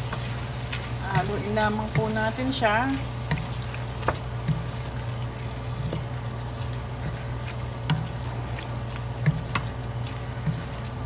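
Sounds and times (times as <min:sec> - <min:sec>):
meat sizzling in a pot: 0:00.0 - 0:11.0
steady low hum: 0:00.0 - 0:11.0
wooden spoon stirring: 0:00.0 - 0:11.0.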